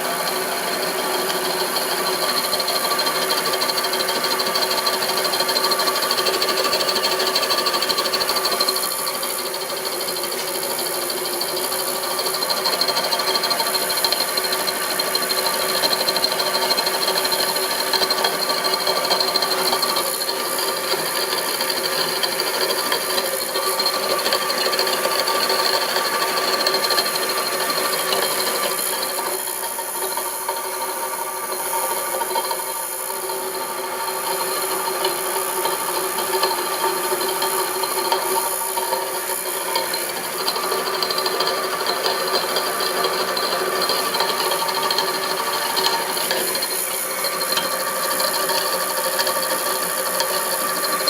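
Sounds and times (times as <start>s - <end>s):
milling machine motor whine: 0.0s - 51.0s.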